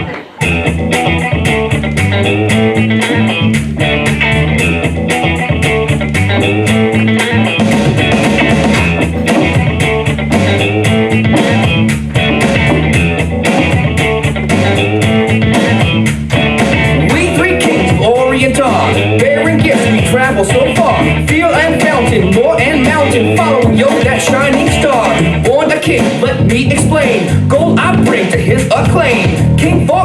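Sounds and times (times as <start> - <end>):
instrumental music with guitar: 0.0 - 30.0.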